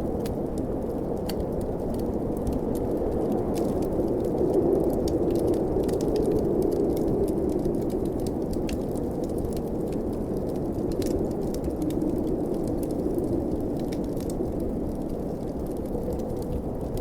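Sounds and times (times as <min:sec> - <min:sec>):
low blizzard wind: 0:00.0 - 0:17.0.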